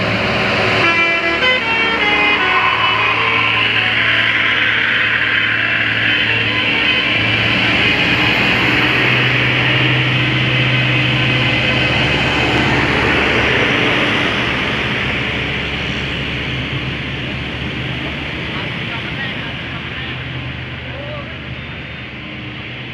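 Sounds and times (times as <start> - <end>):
diesel bus engine running: 0.0 - 22.9.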